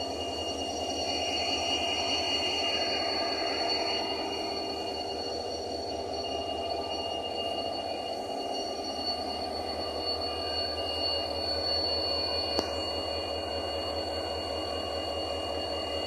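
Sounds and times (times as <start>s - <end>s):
high-pitched whine: 0.0s - 16.0s.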